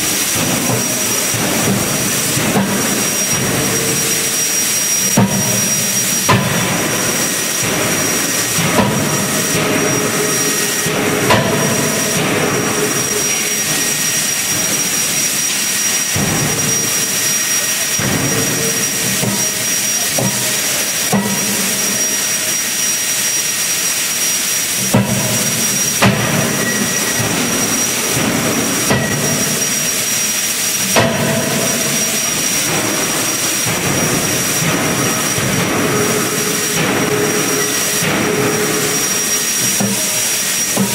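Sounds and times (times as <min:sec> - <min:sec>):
forging hammer blows: 0:00.0 - 0:40.9
machine hiss with high whine: 0:00.0 - 0:40.9.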